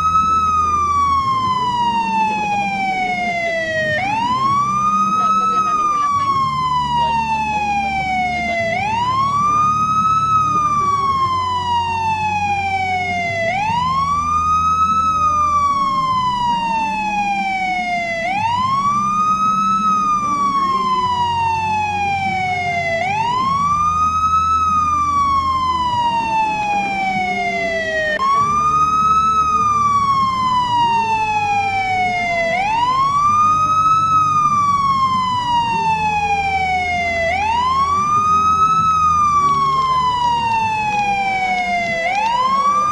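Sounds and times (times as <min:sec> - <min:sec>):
police siren wailing: 0:00.0 - 0:42.9.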